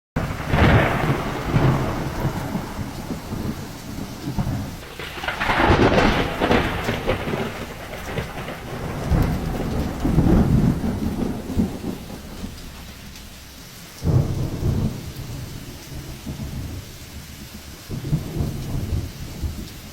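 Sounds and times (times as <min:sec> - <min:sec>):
loud rumbling surges: 0:00.2 - 0:19.6
heavy rain: 0:00.2 - 0:19.9
wind: 0:00.2 - 0:19.9.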